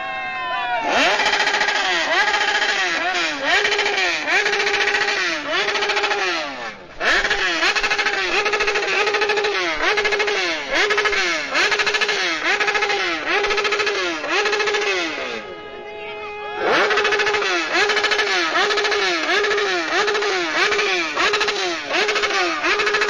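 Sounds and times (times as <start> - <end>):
motorcycle engine revving: 0.8 - 15.8, 16.5 - 23.0.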